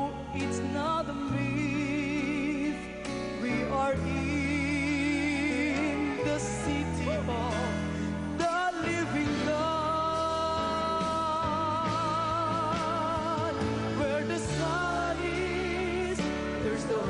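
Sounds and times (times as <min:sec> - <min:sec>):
worship song with band: 0:00.0 - 0:17.0.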